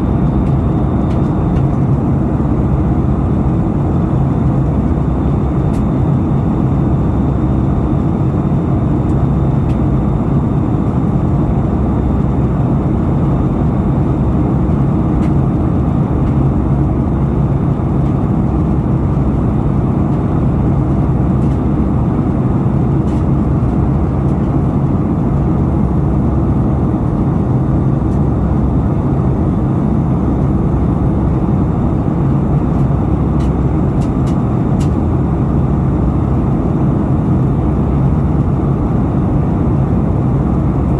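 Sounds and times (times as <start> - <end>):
jet engine and airflow rush: 0.0 - 40.9.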